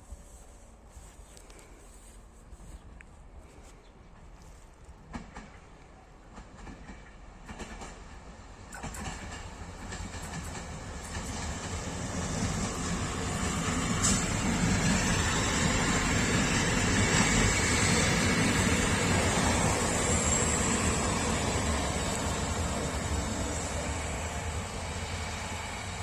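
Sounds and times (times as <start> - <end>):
railbus passing: 4.0 - 26.0.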